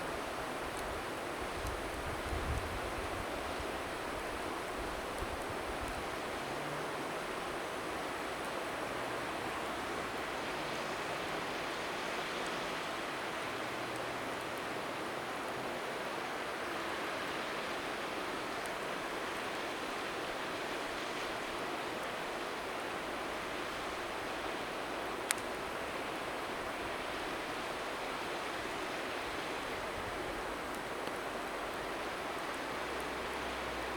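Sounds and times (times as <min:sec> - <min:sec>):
faint wood fire crackles: 0:00.0 - 0:33.9
river water rushing: 0:03.2 - 0:33.9.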